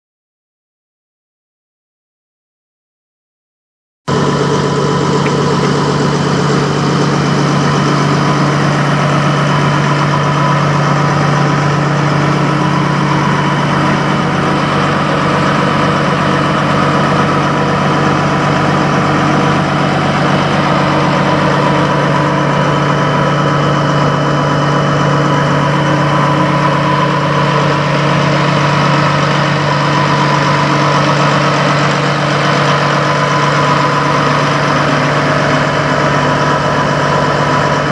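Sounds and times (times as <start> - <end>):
diesel truck engine idling: 4.1 - 37.9.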